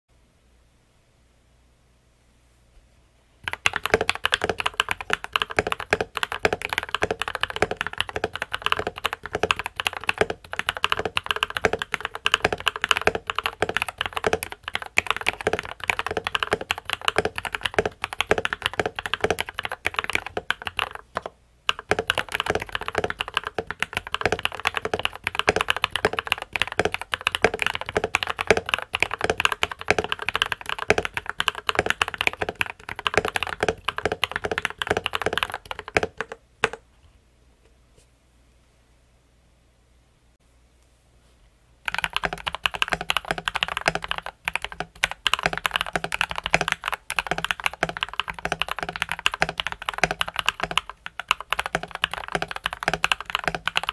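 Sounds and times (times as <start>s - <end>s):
fast typing on mechanical keyboard: 3.4s - 36.8s, 41.9s - 53.9s.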